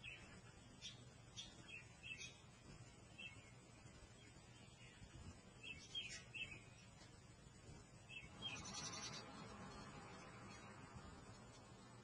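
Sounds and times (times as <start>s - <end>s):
faint high bird chirps: 0.0s - 7.1s, 8.0s - 12.0s.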